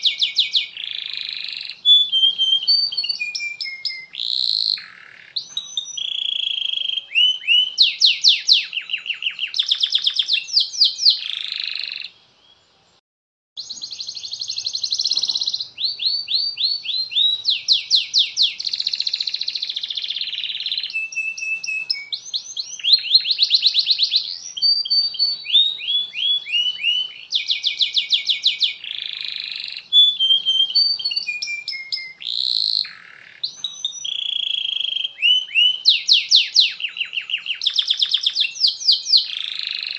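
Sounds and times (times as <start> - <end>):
canary singing trills: 0.0 - 12.6, 13.6 - 39.9.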